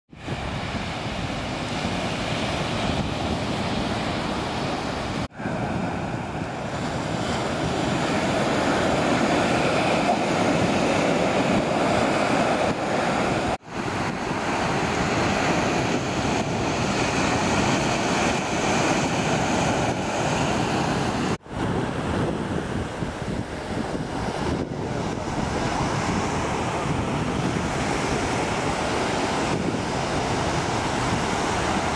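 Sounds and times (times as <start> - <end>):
ocean surf breaking on beach: 0.1 - 31.9.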